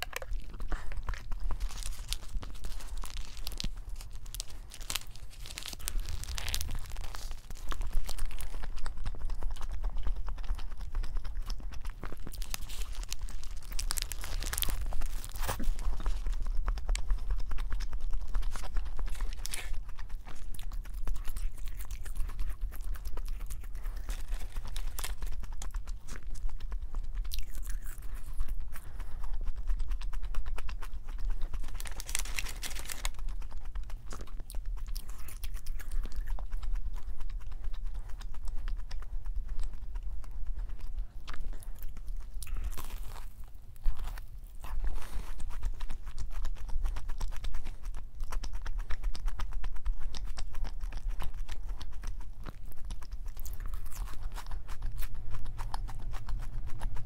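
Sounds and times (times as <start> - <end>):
chewing crispy food: 0.0 - 57.0.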